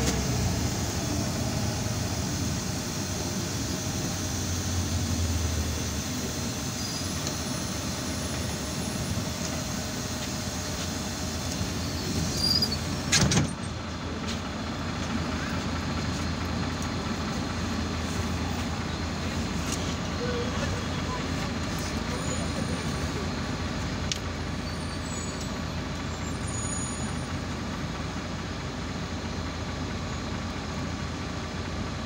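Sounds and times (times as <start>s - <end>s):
bus engine humming: 0.0s - 32.0s.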